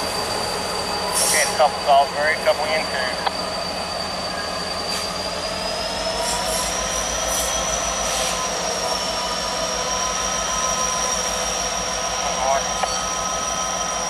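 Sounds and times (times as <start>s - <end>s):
low train rumble: 0.0s - 14.0s
train wheel squeal: 0.0s - 14.0s.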